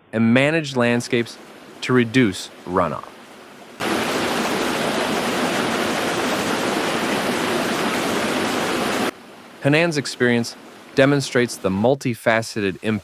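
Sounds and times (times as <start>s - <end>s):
rushing floodwater: 0.5s - 13.0s.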